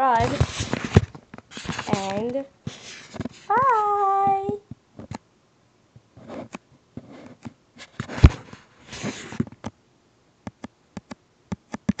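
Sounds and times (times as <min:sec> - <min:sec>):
recording device handling noise: 0:00.0 - 0:05.3, 0:05.9 - 0:09.8, 0:10.4 - 0:12.0.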